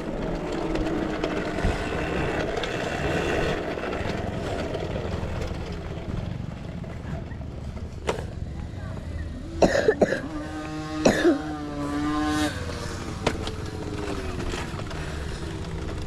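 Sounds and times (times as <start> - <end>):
small off-road engines running: 0.0 - 16.0.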